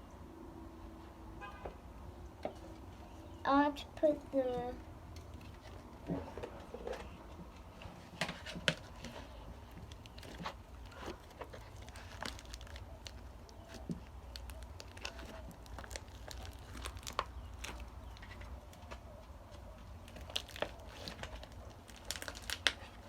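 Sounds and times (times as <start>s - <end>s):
crinkling and crackling clicks: 4.4s - 23.0s.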